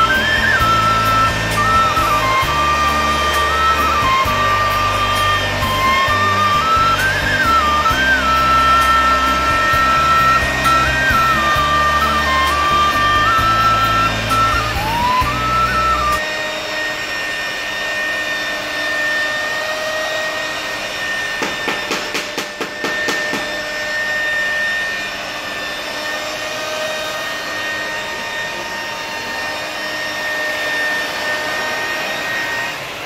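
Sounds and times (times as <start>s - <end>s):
electric polisher whining: 0.0s - 33.0s.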